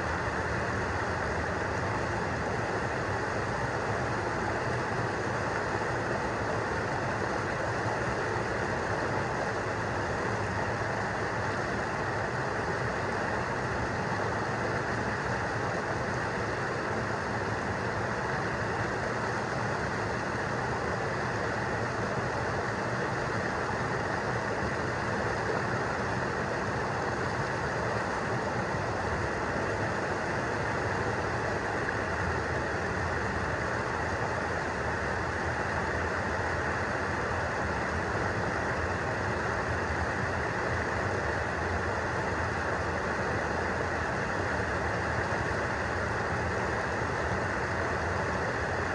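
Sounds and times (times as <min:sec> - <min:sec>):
river water rushing over rocks: 0:00.0 - 0:48.9.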